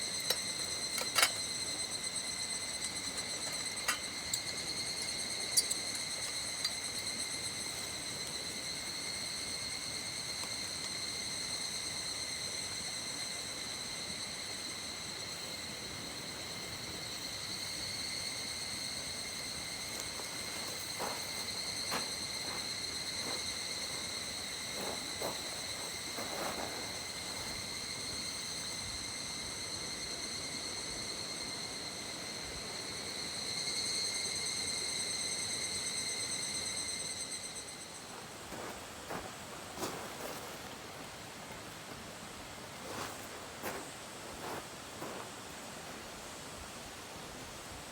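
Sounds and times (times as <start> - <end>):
insect high-pitched drone: 0.0 - 47.1
faint background hiss: 0.0 - 47.9.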